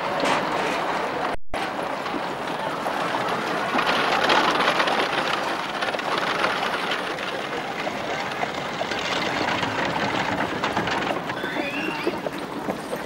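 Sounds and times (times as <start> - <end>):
coach wheels rumbling and rattling: 0.0 - 13.0
crowd bustle: 0.0 - 13.0
horse hooves: 2.0 - 13.0.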